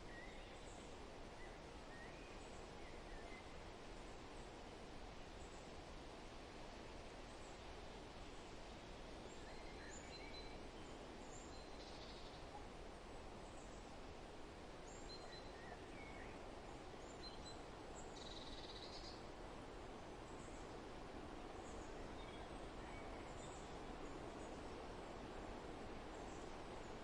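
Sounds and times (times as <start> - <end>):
wind-like rustle: 0.0 - 27.0.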